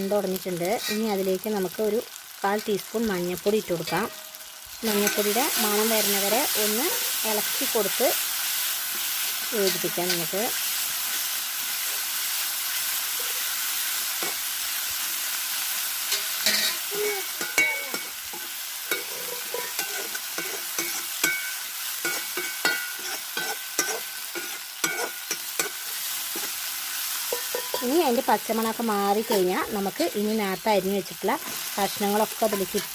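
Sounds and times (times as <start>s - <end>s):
masala sizzling in a pan: 0.0s - 32.9s.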